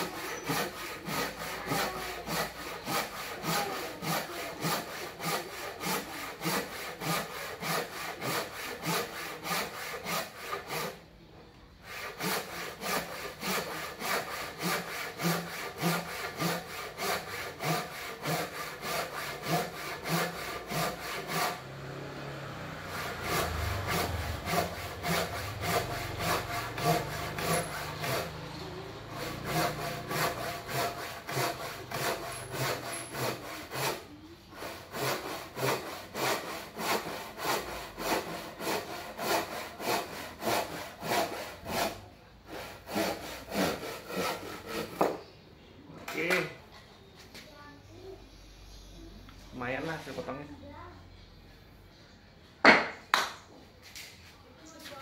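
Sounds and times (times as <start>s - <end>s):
hand saw cutting wood: 0.0s - 11.1s, 11.8s - 45.2s.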